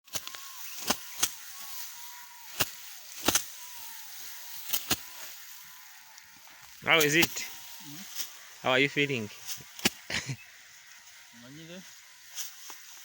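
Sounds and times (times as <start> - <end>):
faint hiss: 0.6 - 13.0.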